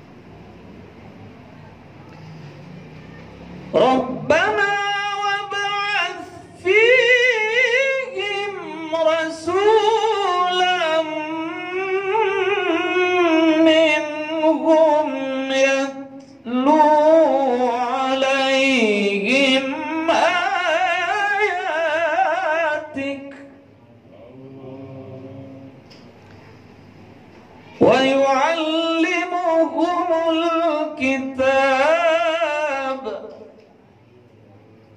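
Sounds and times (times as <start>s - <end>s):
man chanting melodically: 3.4s - 25.9s, 27.7s - 33.6s.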